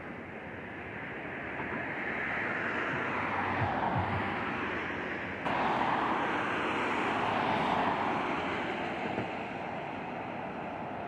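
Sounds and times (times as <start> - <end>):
jet engines rushing: 1.4 - 11.0.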